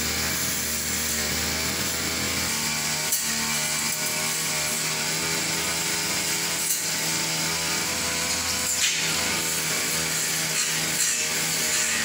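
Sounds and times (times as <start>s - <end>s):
brush cutter engine running: 0.0s - 12.0s.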